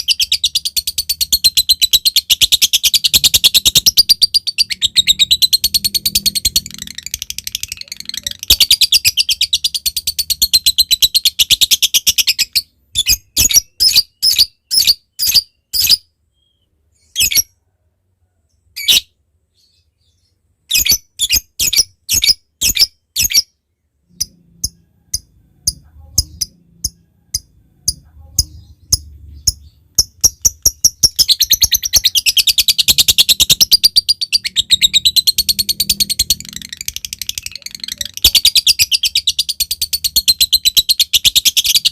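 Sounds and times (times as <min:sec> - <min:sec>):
bird chattering trill: 0:00.0 - 0:15.9, 0:24.1 - 0:41.9.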